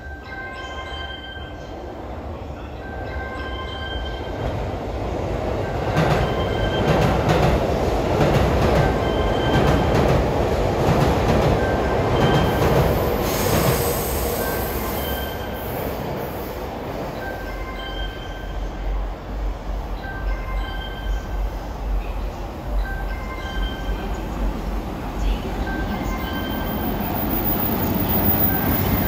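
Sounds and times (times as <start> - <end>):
train rumble and clatter: 0.0 - 29.0.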